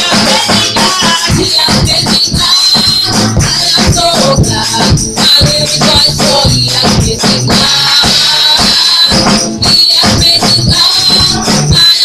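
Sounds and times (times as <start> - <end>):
bass: 0.0 - 12.0
keyboard: 0.0 - 12.0
percussion beat: 0.0 - 12.0
women singing: 0.0 - 12.0.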